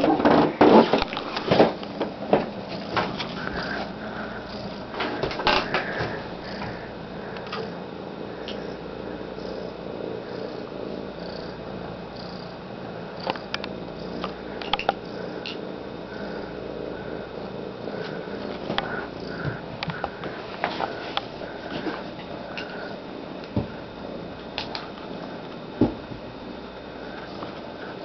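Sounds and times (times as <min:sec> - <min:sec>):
cat purring: 0:00.0 - 0:28.0.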